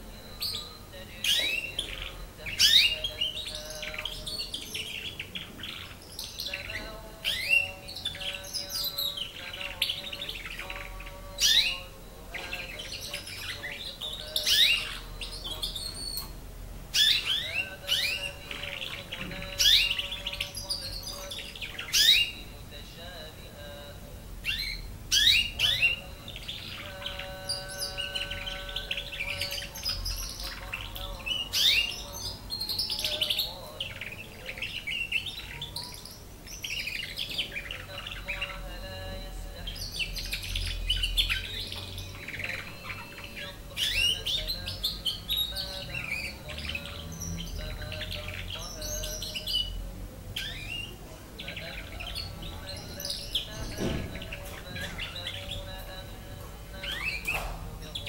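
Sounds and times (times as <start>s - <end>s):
canary chirping and trilling: 0.0s - 58.0s.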